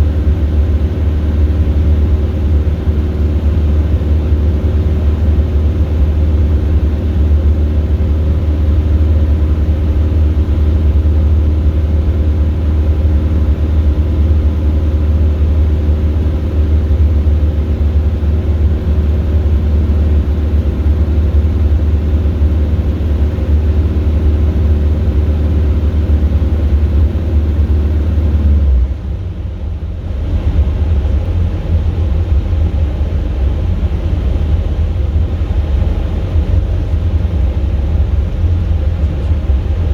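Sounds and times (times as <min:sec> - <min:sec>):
light aircraft engine idling: 0:00.0 - 0:39.9
rough engine rumble: 0:00.0 - 0:39.9.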